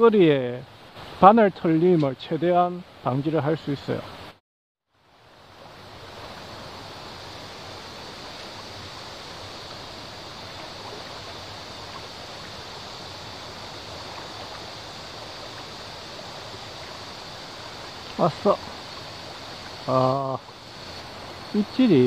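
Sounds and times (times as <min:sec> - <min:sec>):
shallow river flowing: 0:00.0 - 0:22.0.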